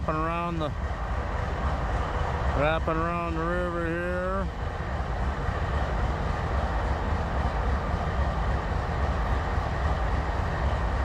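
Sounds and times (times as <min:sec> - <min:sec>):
locomotives idling: 0:00.0 - 0:11.0.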